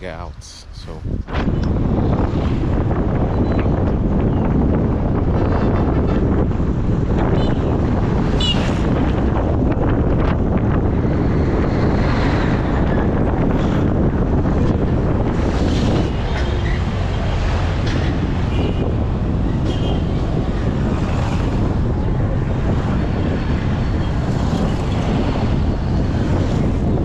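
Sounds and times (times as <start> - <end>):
wind buffeting the microphone: 0.0 - 27.0.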